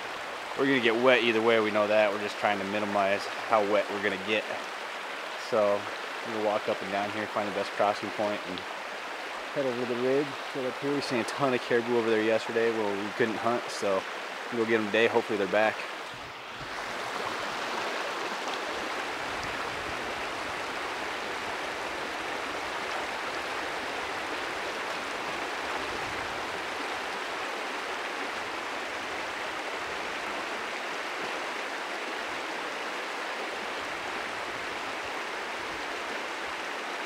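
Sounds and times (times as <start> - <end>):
river rushing over stones: 0.0 - 37.0.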